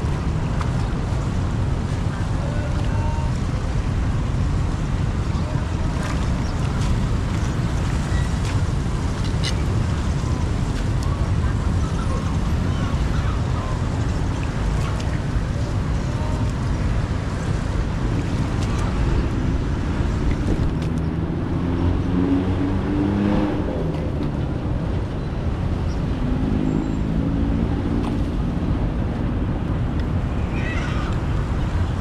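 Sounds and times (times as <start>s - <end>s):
floodwater rushing: 0.0s - 32.0s
wind buffeting microphone: 0.0s - 32.0s.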